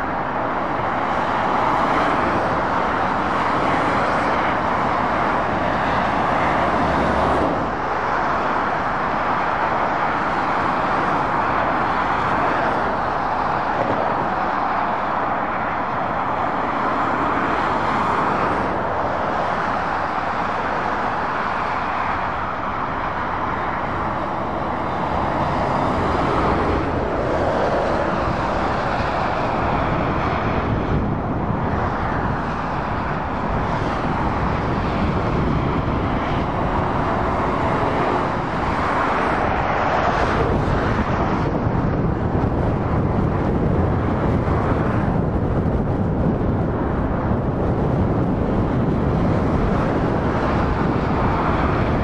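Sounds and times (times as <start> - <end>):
lorries and cars passing: 0.0 - 52.0.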